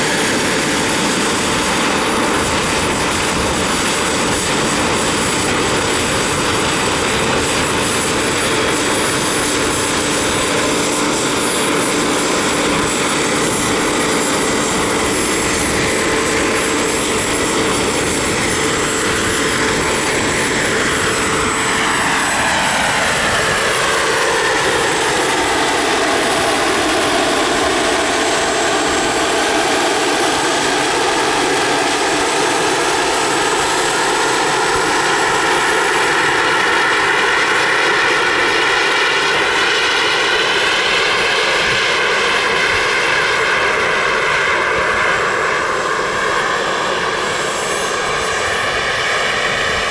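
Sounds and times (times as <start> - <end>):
model helicopter whine: 0.0 - 49.9.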